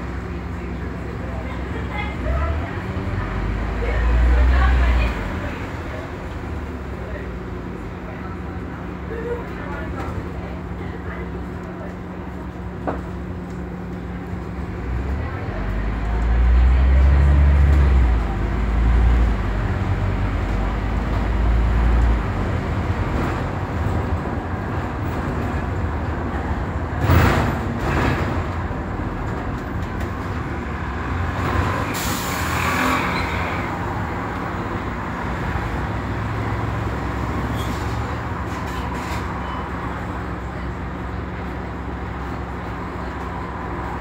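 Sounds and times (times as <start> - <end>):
bus engine droning: 0.0 - 44.0.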